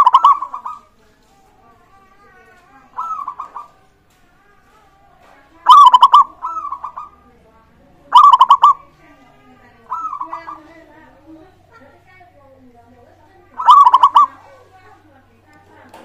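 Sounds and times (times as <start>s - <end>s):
doves cooing: 0.0s - 4.5s, 5.2s - 12.1s, 13.0s - 15.4s
faint background bird calls: 0.0s - 15.9s.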